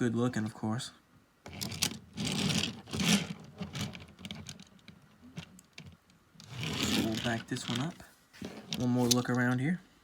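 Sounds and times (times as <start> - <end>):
toy trucks handling rustles: 1.5 - 9.7.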